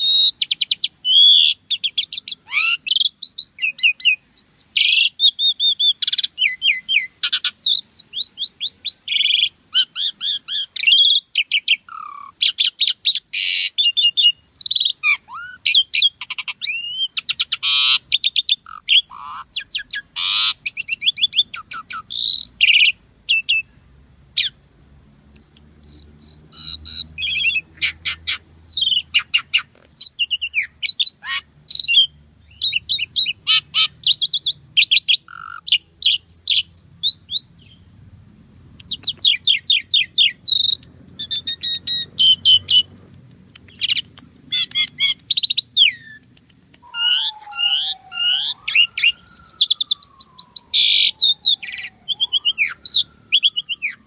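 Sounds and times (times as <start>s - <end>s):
starling singing: 0.0s - 23.7s, 25.4s - 37.9s, 38.8s - 54.0s.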